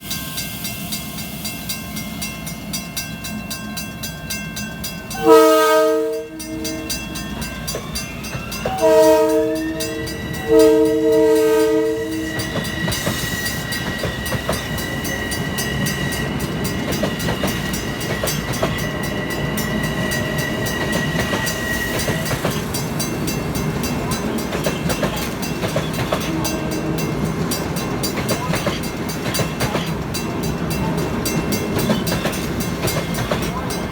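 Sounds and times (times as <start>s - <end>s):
multi-chime train horn: 0.0s - 33.9s
train rumbling on rails: 0.0s - 33.9s.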